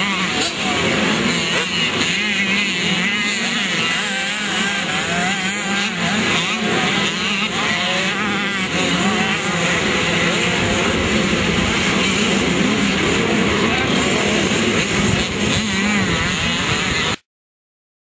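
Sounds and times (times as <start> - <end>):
motorcycle engines revving: 0.0 - 17.2.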